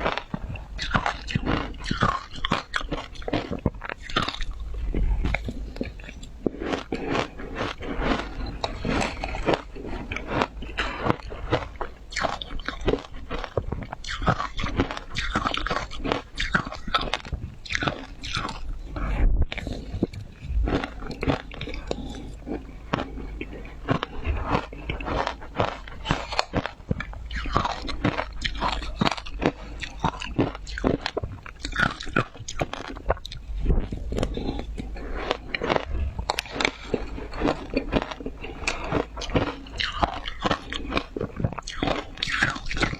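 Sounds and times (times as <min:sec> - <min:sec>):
chewing ice crunches: 0:00.0 - 0:42.9.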